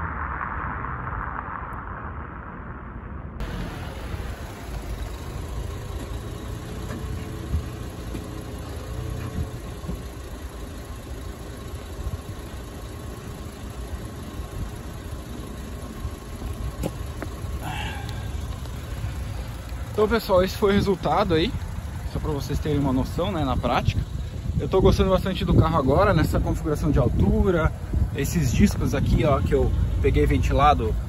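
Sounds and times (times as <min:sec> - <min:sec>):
car engine running through exhaust: 0:00.0 - 0:31.0.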